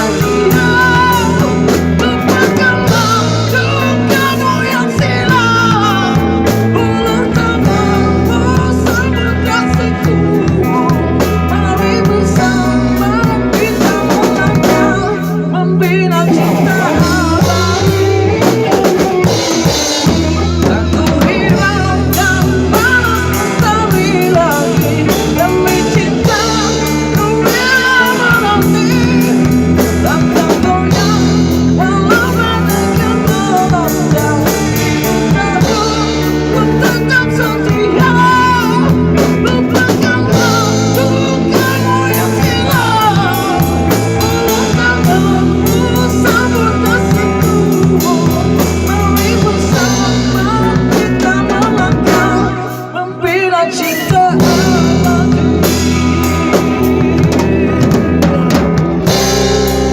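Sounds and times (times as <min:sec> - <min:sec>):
bass guitar: 0:00.0 - 0:59.9
drum kit: 0:00.0 - 0:59.9
electric guitar lead line: 0:00.0 - 0:59.9.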